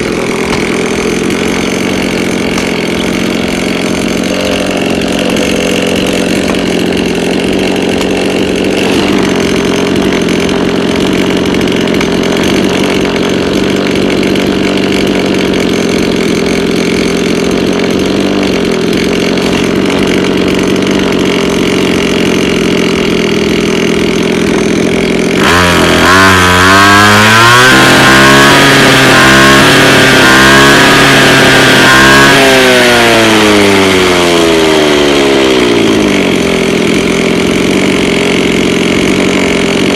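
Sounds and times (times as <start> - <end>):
two-stroke grass cutter engine: 0.0 - 39.9.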